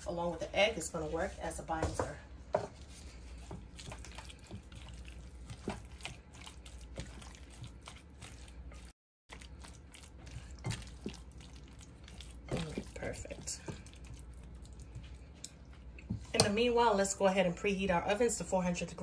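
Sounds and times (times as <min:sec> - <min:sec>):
spatula folding wet mixture: 0:00.0 - 0:17.4.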